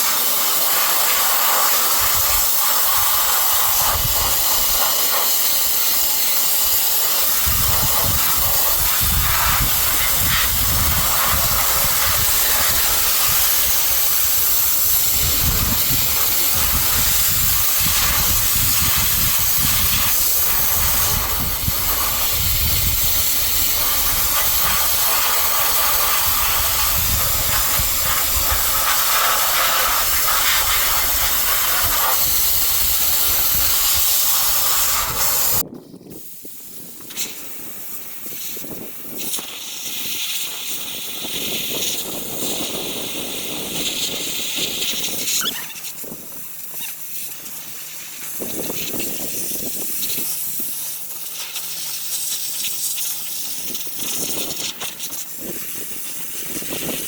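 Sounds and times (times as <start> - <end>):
sandblaster hissing: 0.0 - 57.0.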